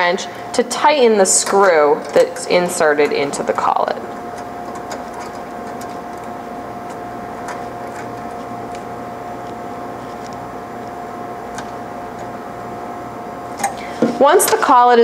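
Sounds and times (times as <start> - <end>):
electrical hum with whine: 0.0 - 15.0.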